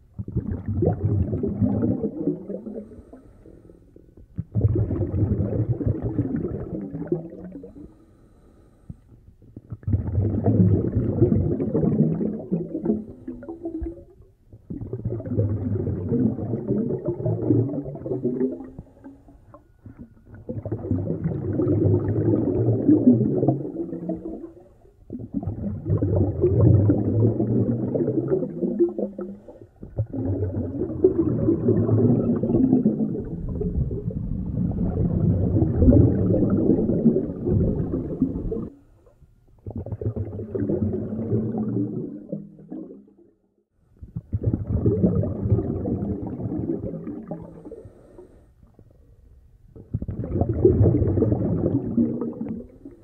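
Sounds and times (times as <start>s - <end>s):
scuba exhalation bubbles: 0.0s - 8.0s, 9.4s - 38.8s, 39.6s - 43.2s, 44.0s - 48.9s, 49.7s - 53.0s.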